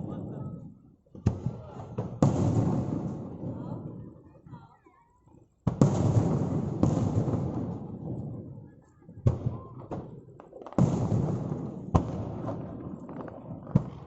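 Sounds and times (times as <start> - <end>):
fireworks booming: 0.0 - 4.2, 5.5 - 14.0
small fireworks pops: 0.0 - 14.0.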